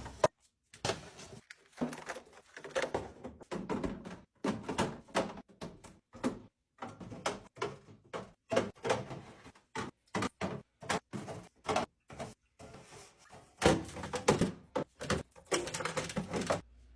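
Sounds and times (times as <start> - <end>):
refrigerator drawers clunking and sliding: 0.9 - 16.6.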